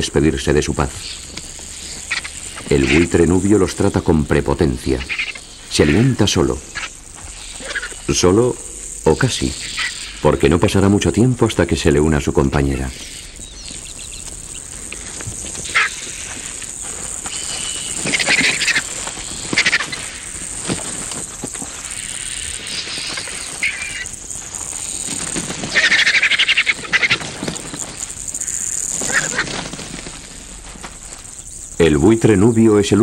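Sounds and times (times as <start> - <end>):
vultures squawking: 0.0 - 31.6
high-pitched insect trill: 0.0 - 33.0.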